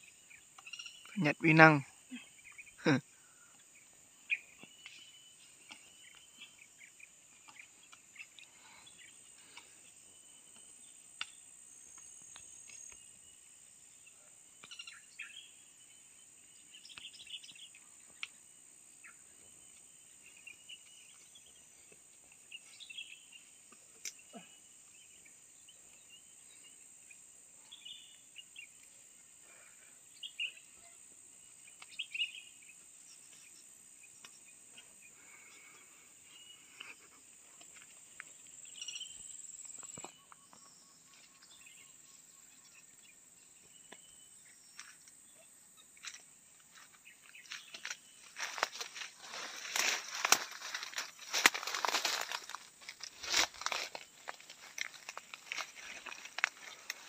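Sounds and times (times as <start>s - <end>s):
bird chirps: 0.0s - 28.9s, 30.1s - 57.0s
insect drone: 0.0s - 57.0s.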